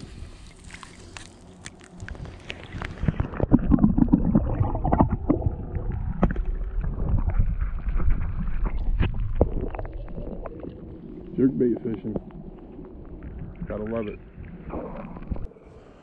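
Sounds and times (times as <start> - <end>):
water sloshing and gurgling: 0.0 - 15.6.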